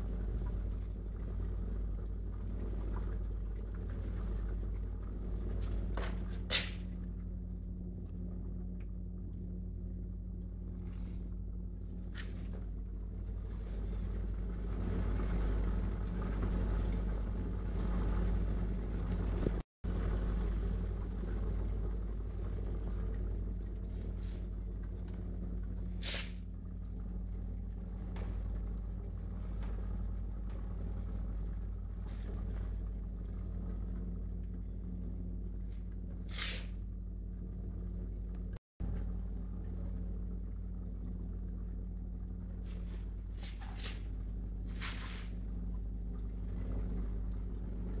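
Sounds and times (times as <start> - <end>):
aquarium equipment humming: 0.0 - 48.0.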